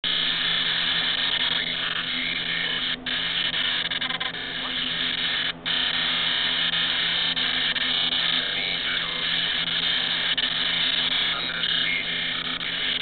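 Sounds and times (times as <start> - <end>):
harsh buzzing broadcast noise: 0.0 - 13.0.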